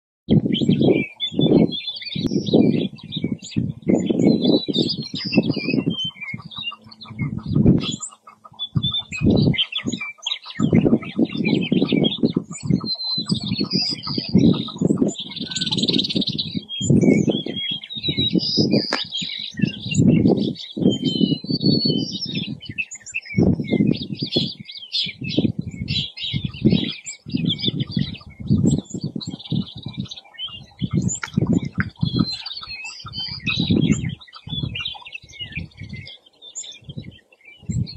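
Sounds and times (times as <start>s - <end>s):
high bird chirping: 0.3s - 37.9s
partridges rattling clucking calls: 0.8s - 37.9s.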